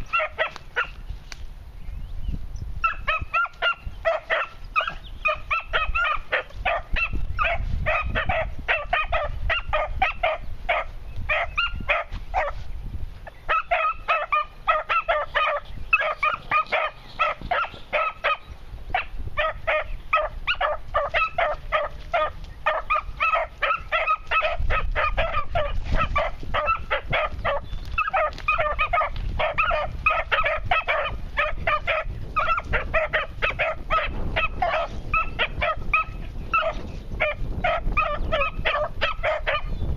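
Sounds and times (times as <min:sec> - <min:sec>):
puppies yelping: 0:00.0 - 0:01.0, 0:02.8 - 0:12.6, 0:13.4 - 0:39.8.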